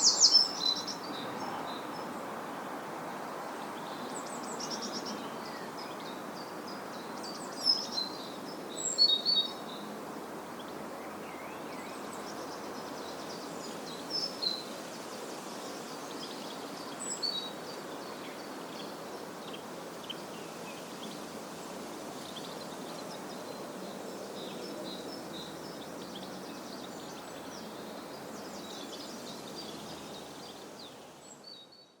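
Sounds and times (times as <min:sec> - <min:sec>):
small birds chirping: 0:00.0 - 0:02.4, 0:03.5 - 0:32.0
low background hiss: 0:00.0 - 0:32.0.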